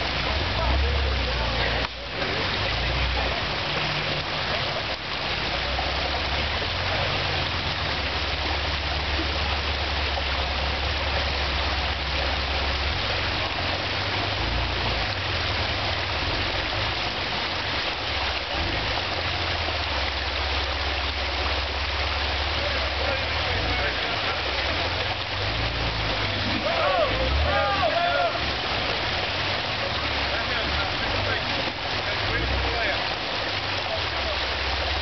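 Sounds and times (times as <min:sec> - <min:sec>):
car engine rumbling: 0:00.0 - 0:35.0
creek water rushing: 0:00.0 - 0:35.0.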